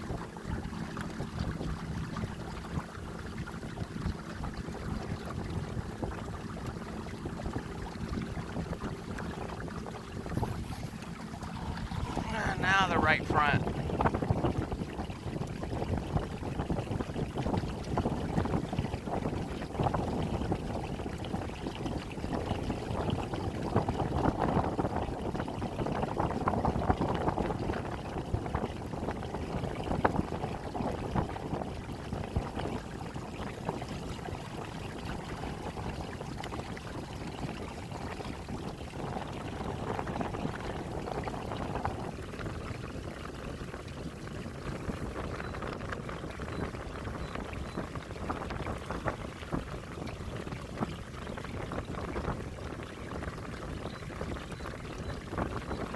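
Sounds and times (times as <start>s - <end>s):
water splashing against kayak hull: 0.0s - 55.9s.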